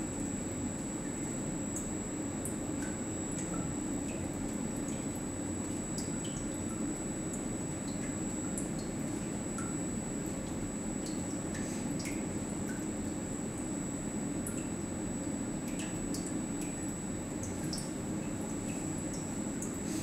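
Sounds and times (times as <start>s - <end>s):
pump humming with high whine: 0.0s - 20.0s.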